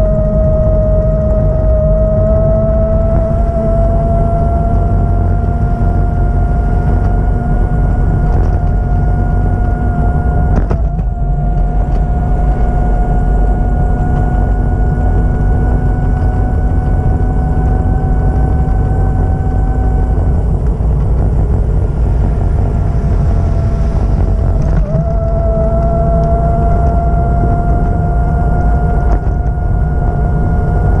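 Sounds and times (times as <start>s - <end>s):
constant whine: 0.0s - 31.0s
vehicle engine rumbling: 0.0s - 31.0s.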